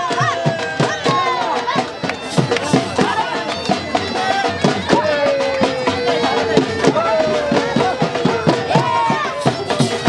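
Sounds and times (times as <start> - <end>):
dhol drum beating: 0.0 - 10.0.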